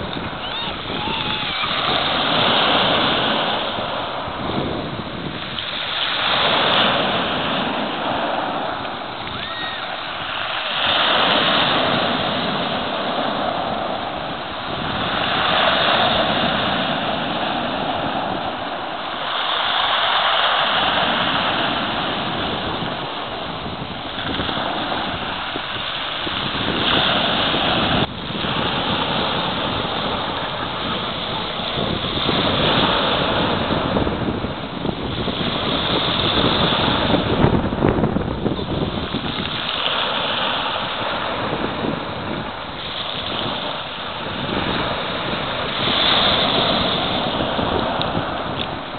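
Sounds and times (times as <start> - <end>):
waves breaking on shore: 0.0 - 48.9.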